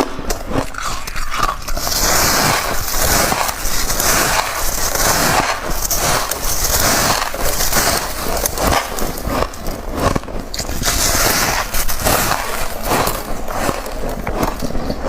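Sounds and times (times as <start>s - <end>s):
crunching ice being bitten: 0.0s - 15.0s.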